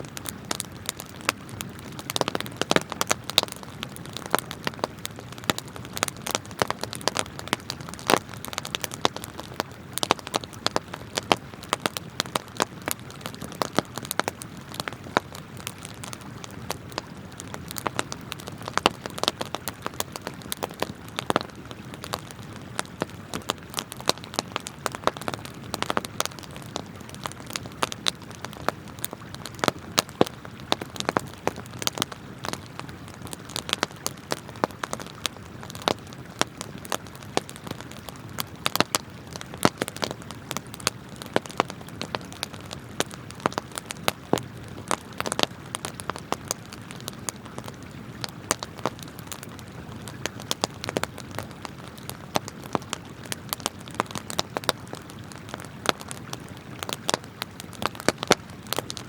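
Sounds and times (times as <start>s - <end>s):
campfire crackling and popping: 0.0s - 59.0s
flowing river water: 0.0s - 59.0s.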